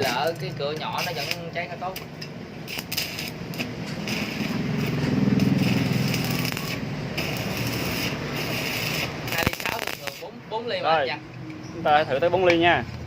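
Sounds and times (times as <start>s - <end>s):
welding arc crackling: 0.0s - 10.8s.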